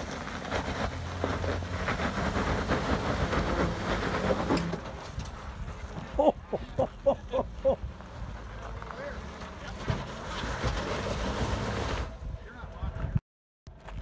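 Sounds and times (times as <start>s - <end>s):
tires crunching on rock: 0.0s - 14.0s.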